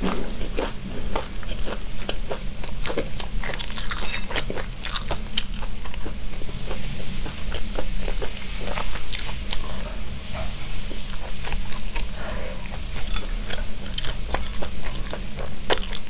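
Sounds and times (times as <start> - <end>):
chewing crispy food: 0.0 - 16.0.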